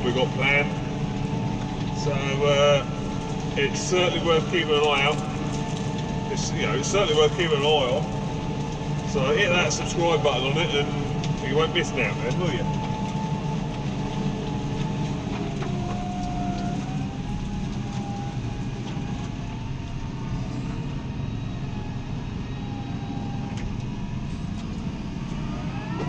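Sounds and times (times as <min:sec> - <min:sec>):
faint wavering whine: 0:00.0 - 0:26.0
tractor diesel engine running: 0:00.0 - 0:26.0.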